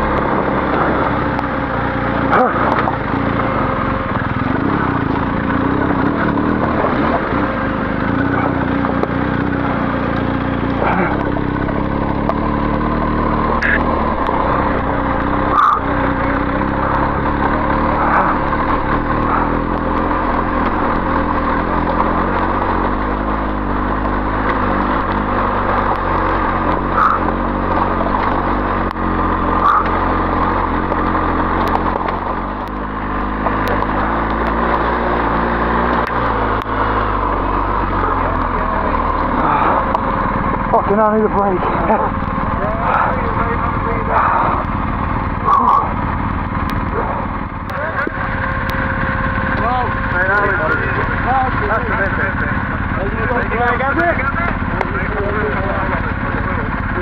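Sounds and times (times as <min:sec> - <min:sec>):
motorcycle engine running: 0:00.0 - 0:57.0
tyres rolling on gravel: 0:00.0 - 0:57.0.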